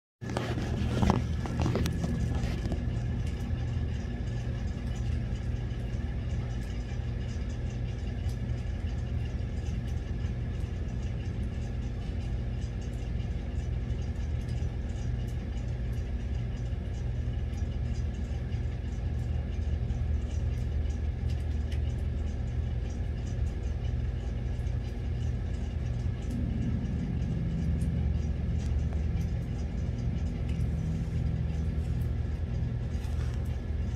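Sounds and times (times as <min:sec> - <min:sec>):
low mechanical hum: 0:00.2 - 0:33.9.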